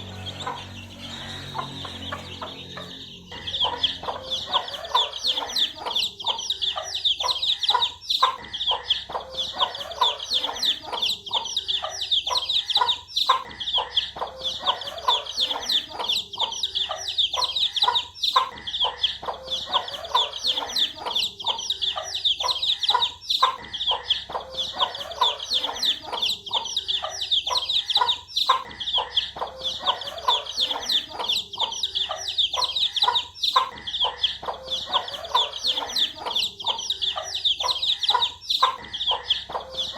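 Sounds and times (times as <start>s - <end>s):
baby chicks peeping: 0.0s - 39.9s
low clucking calls: 0.0s - 39.9s.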